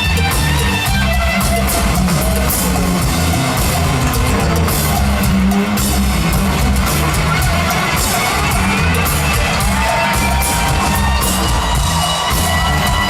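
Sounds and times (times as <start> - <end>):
bass guitar: 0.0 - 13.0
drum kit beat: 0.0 - 13.0
electric guitar: 0.0 - 13.0.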